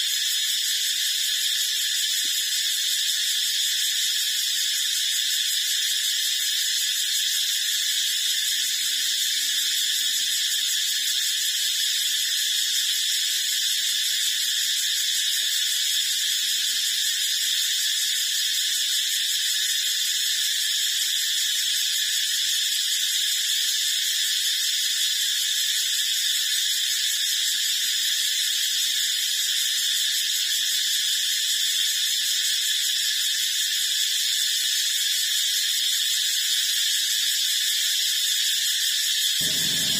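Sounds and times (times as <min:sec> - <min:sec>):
steady high-pitched hiss: 0:00.0 - 0:39.9.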